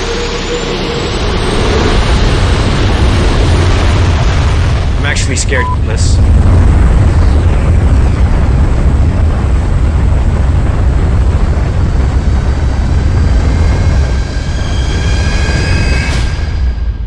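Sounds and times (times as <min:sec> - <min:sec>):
aircraft in flight rumbling: 0:00.0 - 0:17.0
wind rushing: 0:00.7 - 0:17.0.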